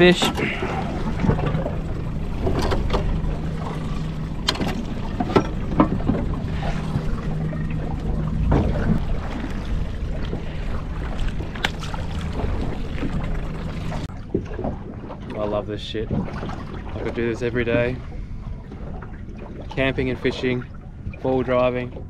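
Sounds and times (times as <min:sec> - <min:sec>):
steady low hum: 0:00.0 - 0:22.0
water lapping: 0:00.0 - 0:22.0.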